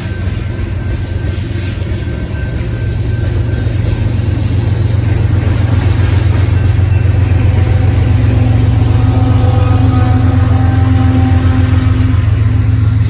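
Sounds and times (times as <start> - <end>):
diesel locomotive engine drone: 0.0 - 13.0
freight train cars rolling: 0.0 - 13.0.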